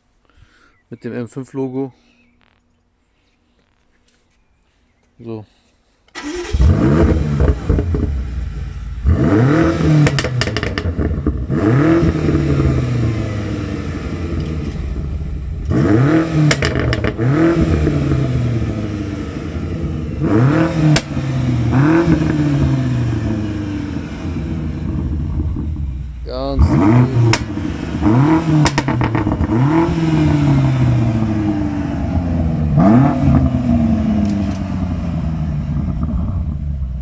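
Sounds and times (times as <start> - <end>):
exhaust cracks: 6.1 - 37.0
car engine revving: 6.2 - 37.0.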